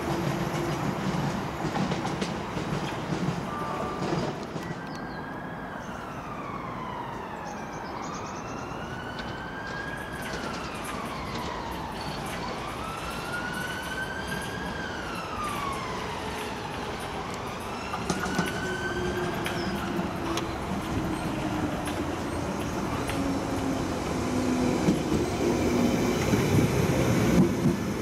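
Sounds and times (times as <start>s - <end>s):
rail clicks: 0.0s - 5.1s, 9.1s - 28.0s
underground train rumble: 0.0s - 7.4s, 8.4s - 28.0s
emergency siren wailing: 3.6s - 27.5s.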